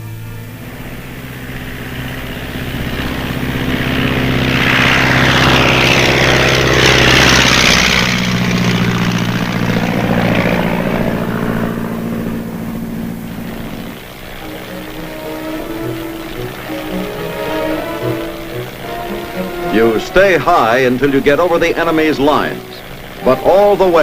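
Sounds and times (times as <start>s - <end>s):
propeller plane passing by: 0.0s - 24.0s.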